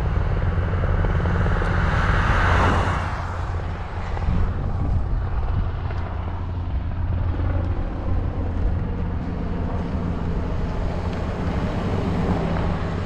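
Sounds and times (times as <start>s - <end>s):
road noise: 0.0s - 13.0s
wind rushing over microphone: 0.0s - 13.0s.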